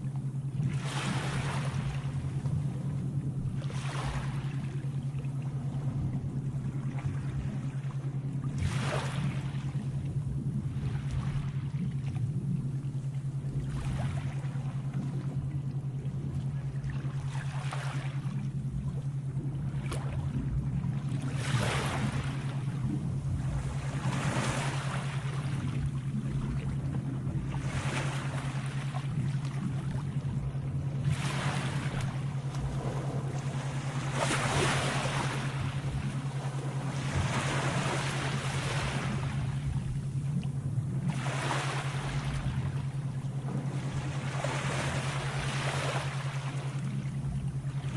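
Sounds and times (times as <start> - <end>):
sea waves washing in: 0.0 - 47.9
steady low hum: 0.0 - 47.9.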